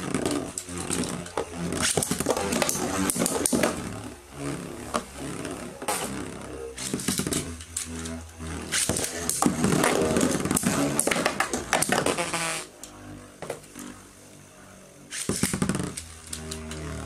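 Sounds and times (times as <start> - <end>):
spinning tops whirring: 0.0 - 17.0.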